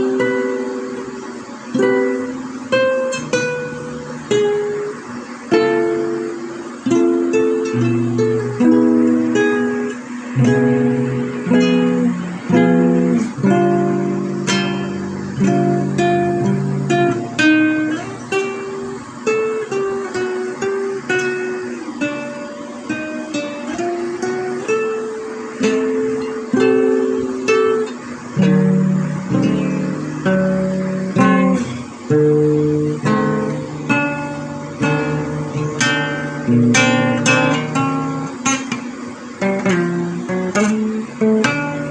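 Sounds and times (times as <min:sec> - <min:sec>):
acoustic guitar strumming chords: 0:00.0 - 0:41.9.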